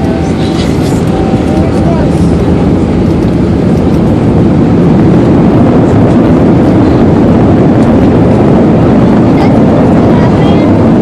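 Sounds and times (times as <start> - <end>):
jet engines and wheels rumbling: 0.0 - 11.0.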